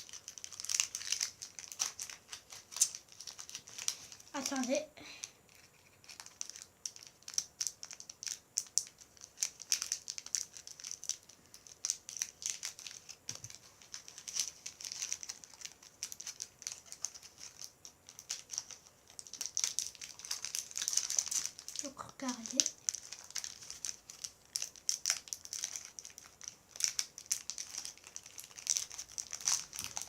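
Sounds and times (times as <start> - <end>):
plastic packaging crinkling: 0.0 - 30.0.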